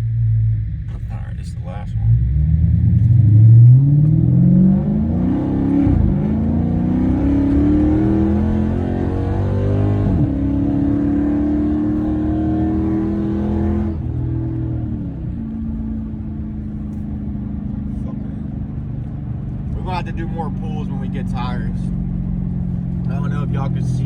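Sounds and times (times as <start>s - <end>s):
car engine revving at full throttle: 0.0s - 24.0s.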